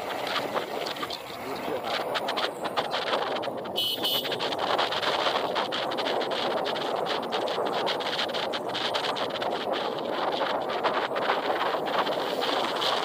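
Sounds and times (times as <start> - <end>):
vehicle running noise: 0.0 - 13.0
wind buffeting microphone: 0.0 - 13.0.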